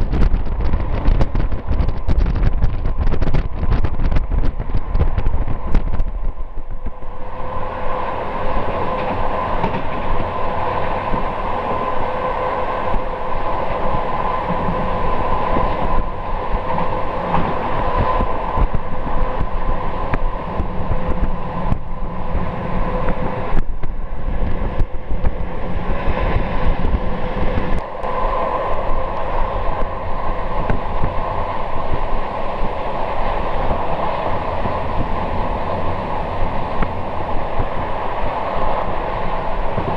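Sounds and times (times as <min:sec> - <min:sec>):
rail clack: 0:00.0 - 0:39.9
steady whine: 0:00.0 - 0:39.9
wheels rumbling on rail: 0:00.0 - 0:39.9.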